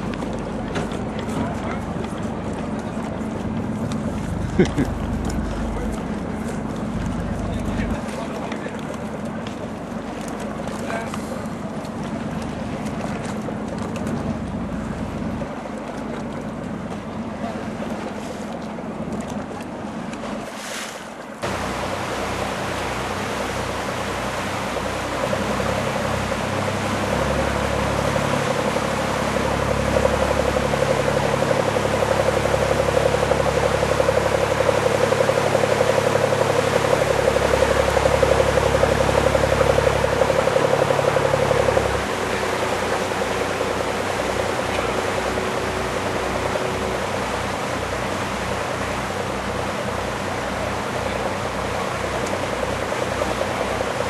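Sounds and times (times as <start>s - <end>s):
boat engine running: 0.0s - 54.0s
water noise: 0.0s - 54.0s
wind: 0.0s - 54.0s.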